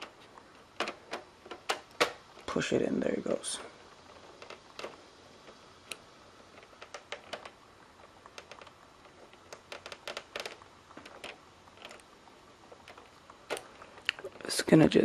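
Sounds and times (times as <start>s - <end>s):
plastic parts clicking and tapping: 0.0s - 2.5s, 4.1s - 12.1s, 12.8s - 14.4s.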